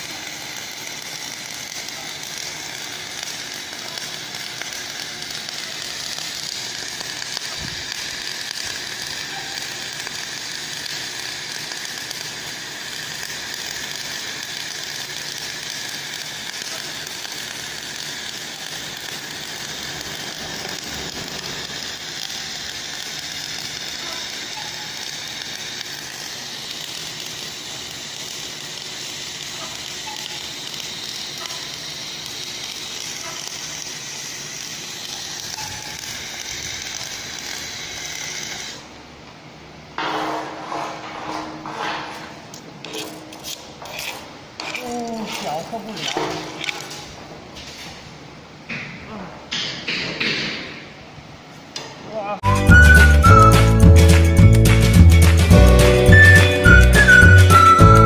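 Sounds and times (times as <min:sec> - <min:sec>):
welding arc crackling hiss: 0:00.0 - 0:58.0.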